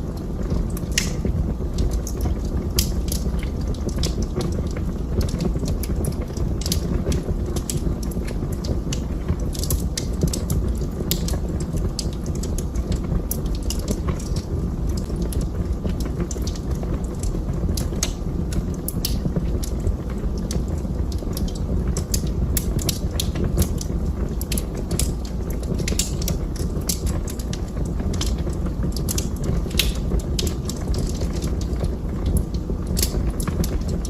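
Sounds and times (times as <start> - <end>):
fire crackling and popping: 0.0 - 34.0
fire rumbling: 0.0 - 34.0.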